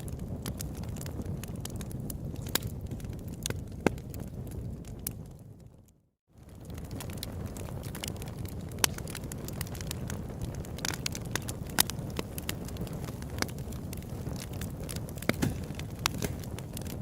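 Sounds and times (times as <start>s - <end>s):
campfire flame rumble: 0.0s - 17.0s
wood crackling and popping: 0.0s - 17.0s.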